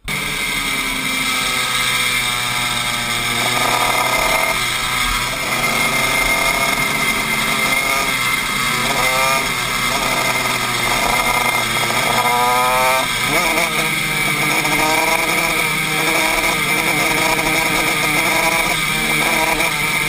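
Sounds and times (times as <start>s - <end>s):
kart engine racing: 0.0s - 20.0s.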